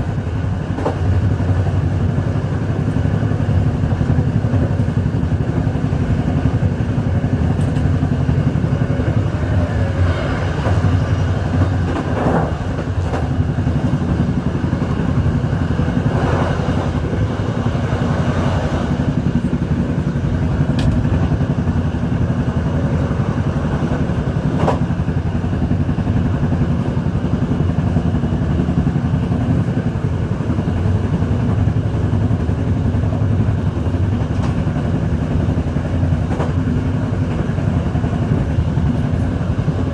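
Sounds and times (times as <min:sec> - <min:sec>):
train rattling: 0:00.0 - 0:39.9
train rumbling: 0:00.0 - 0:39.9.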